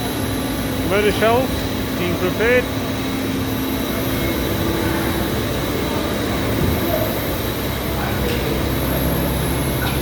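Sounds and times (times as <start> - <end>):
faint high machine whine: 0.0 - 10.0
machine hum and hiss: 0.0 - 10.0.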